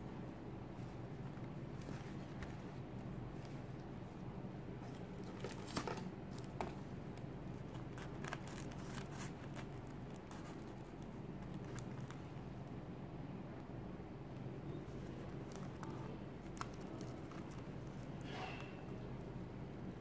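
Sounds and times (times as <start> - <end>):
faint low hum: 0.0 - 20.0
stiff fabric rustling and crinkling: 0.6 - 12.5, 14.8 - 19.1.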